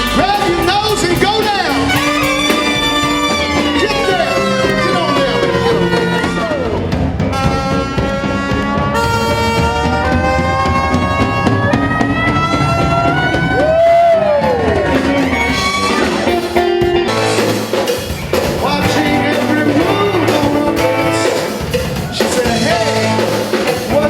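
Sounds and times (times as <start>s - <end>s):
instrumental pop music: 0.0s - 24.0s.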